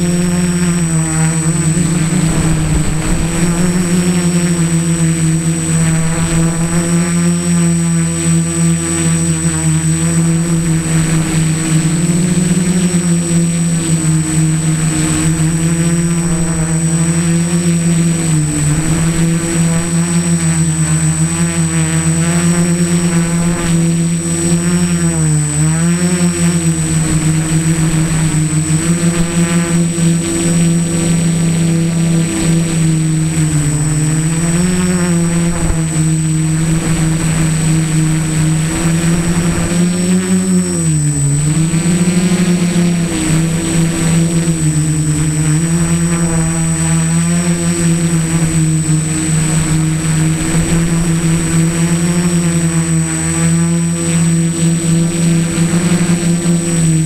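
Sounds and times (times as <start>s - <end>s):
drone motors buzzing: 0.0s - 57.0s
steady high whine: 0.0s - 57.0s.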